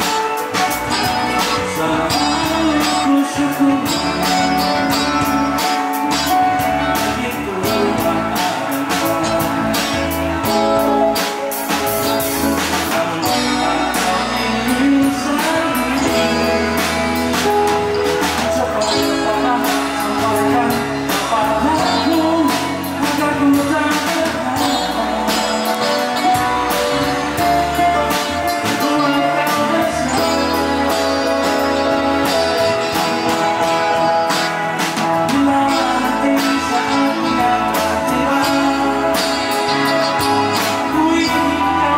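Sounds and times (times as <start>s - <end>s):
drum kit: 0.0s - 41.9s
electric guitars: 0.0s - 41.9s
keyboards: 0.0s - 41.9s
live band playing: 0.0s - 41.9s
man singing lead vocal: 0.0s - 41.9s.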